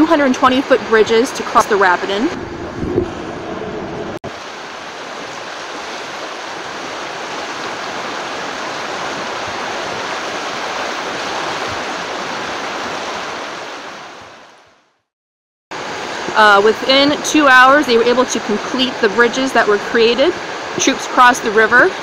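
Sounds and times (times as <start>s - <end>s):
river water flowing over riffles: 0.0s - 14.8s, 15.8s - 22.0s.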